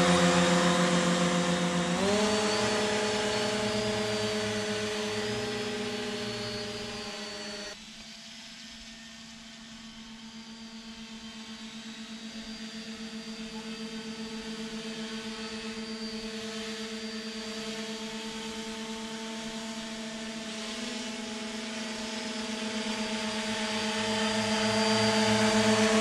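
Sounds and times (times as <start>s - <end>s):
model hovercraft motor whine: 0.0s - 26.0s.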